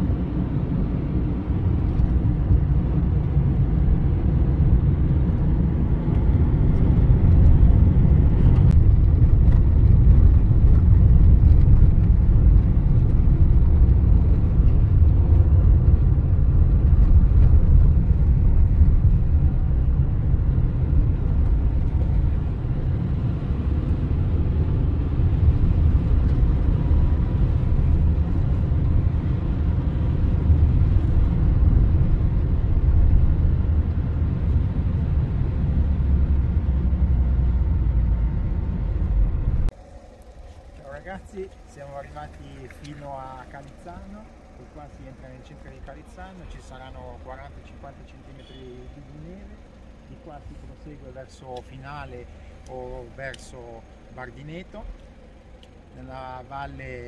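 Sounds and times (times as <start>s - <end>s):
car driving on slushy road: 0.0s - 56.2s.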